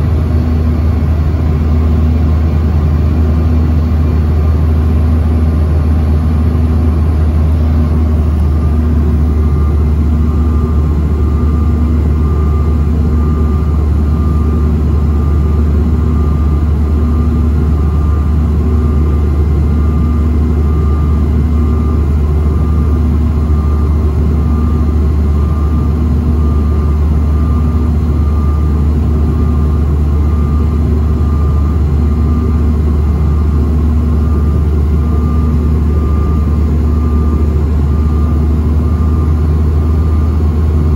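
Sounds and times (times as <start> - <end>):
jet cabin rumble: 0.0 - 40.9.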